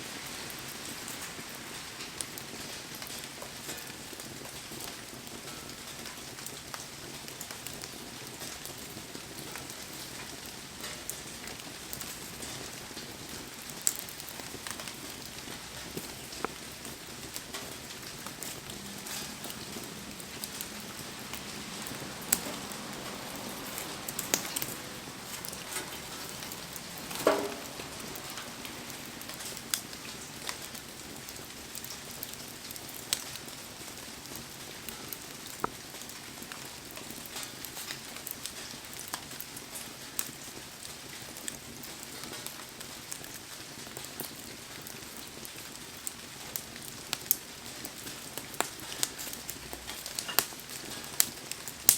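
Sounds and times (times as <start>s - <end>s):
campfire crackling and popping: 0.0s - 51.9s
heavy rain falling: 0.0s - 51.9s.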